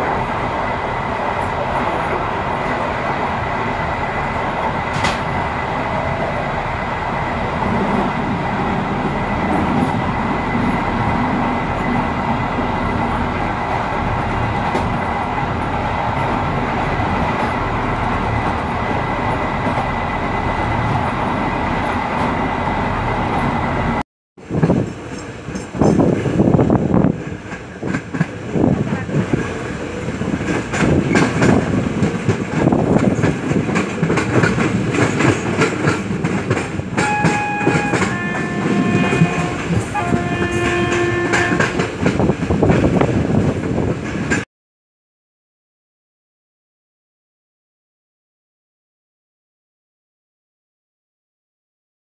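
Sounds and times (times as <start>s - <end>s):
uneven train rumble and rattle: 0.0s - 44.4s
train running on rails: 0.0s - 44.5s.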